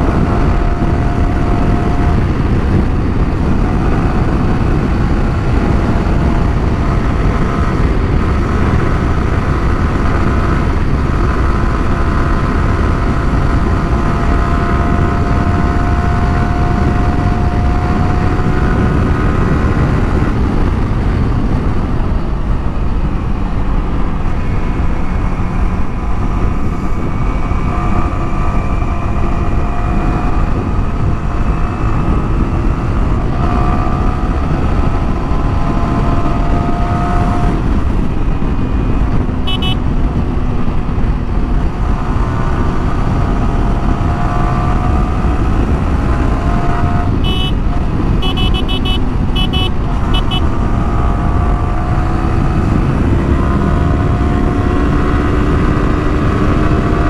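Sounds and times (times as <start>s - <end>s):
motorcycle engine whine: 0.0s - 57.0s
wind noise on microphone: 0.0s - 57.0s.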